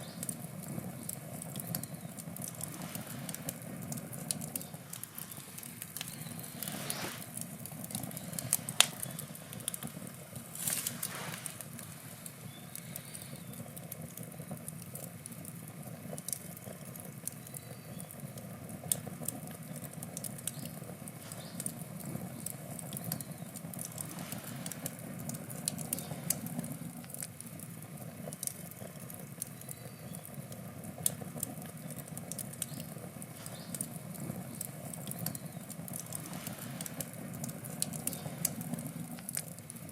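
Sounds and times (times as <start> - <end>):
campfire burning: 0.0 - 39.9
crackles and pops from logs: 0.0 - 39.9
fire hissing: 0.0 - 39.9.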